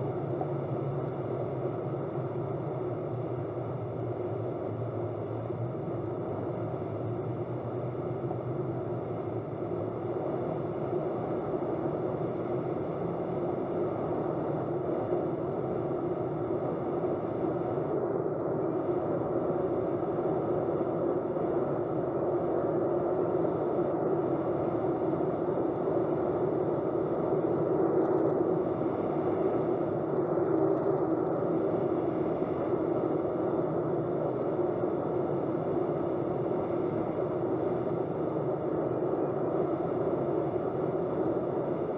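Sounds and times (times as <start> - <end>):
light aircraft engine droning: 0.0 - 41.9.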